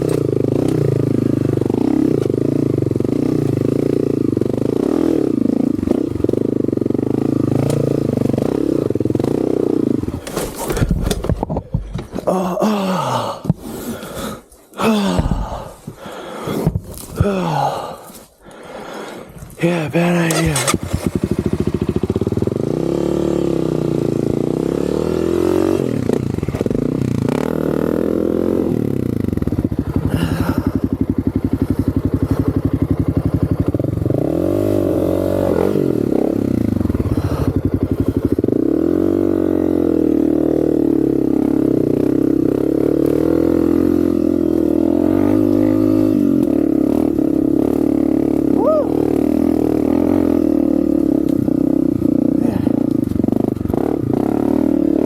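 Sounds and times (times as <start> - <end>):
dirt bike engine revving: 0.0 - 10.8, 17.2 - 55.0.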